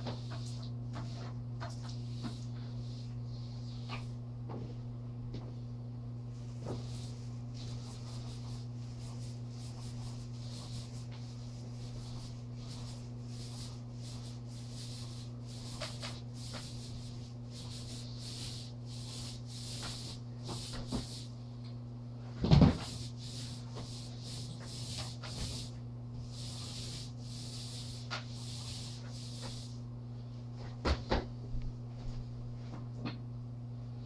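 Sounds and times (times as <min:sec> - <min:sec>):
paintbrush swishing on wall: 0:00.0 - 0:04.8, 0:06.3 - 0:21.4, 0:22.5 - 0:30.3.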